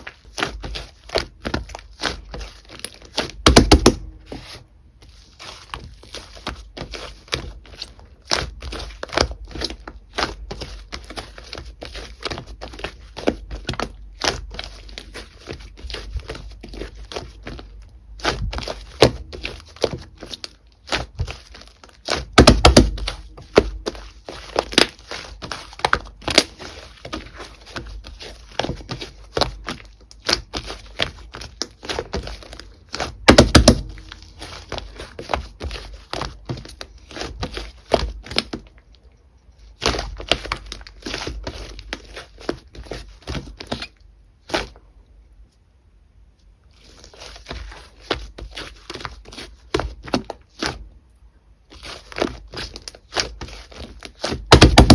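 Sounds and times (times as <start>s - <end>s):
slime squelches: 0.0s - 44.8s
slime squishing by hand: 0.0s - 54.9s.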